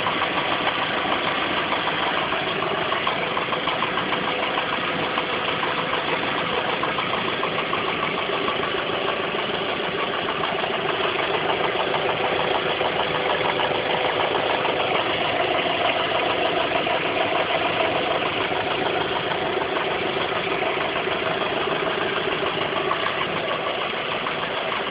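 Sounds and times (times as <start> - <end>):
car engine idling with clatter: 0.0 - 24.9.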